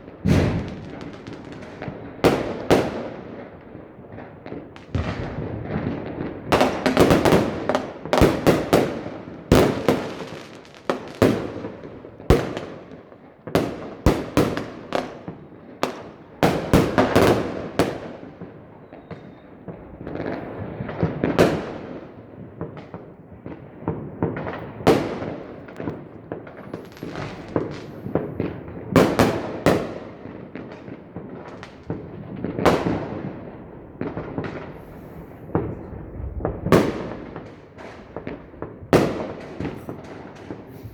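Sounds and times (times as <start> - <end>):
firework bangs: 0.0 - 40.9
rumble of distant fireworks: 0.0 - 40.9.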